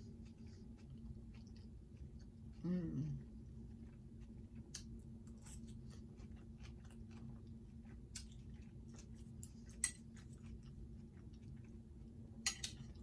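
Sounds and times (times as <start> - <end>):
faint chewing of salad: 0.0 - 13.0.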